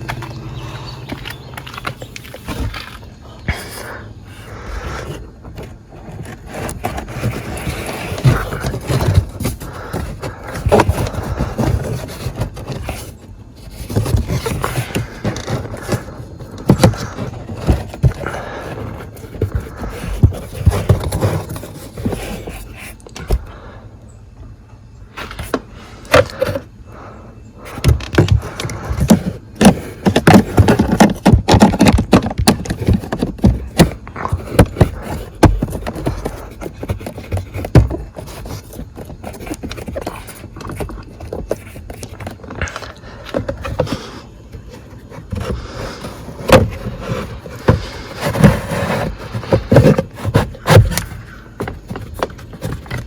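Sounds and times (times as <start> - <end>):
plastic trim scraping and clicking: 4.9 - 23.5, 27.7 - 53.0.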